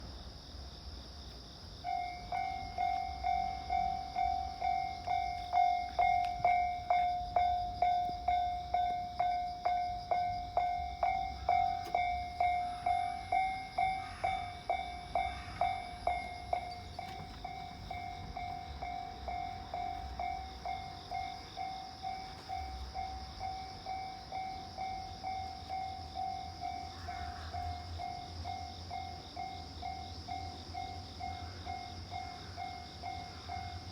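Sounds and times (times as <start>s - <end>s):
level-crossing warning bell: 1.7s - 33.9s.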